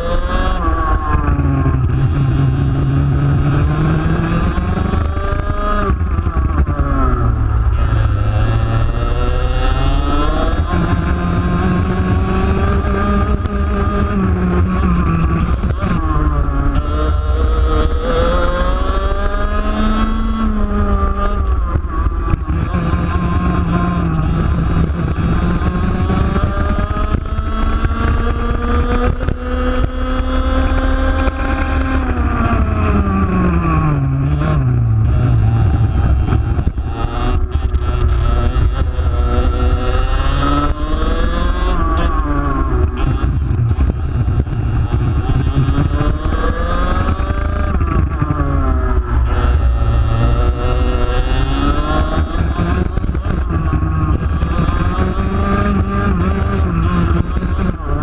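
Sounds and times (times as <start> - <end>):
kart engine revving: 0.0 - 58.0
low rumble of wind and track: 0.0 - 58.0.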